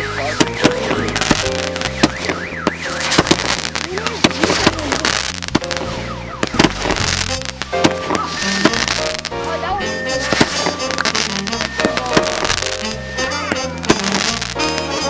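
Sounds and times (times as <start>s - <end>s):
car alarm warbling: 0.0s - 9.2s, 9.8s - 14.2s
fireworks bangs and crackles: 0.0s - 15.0s.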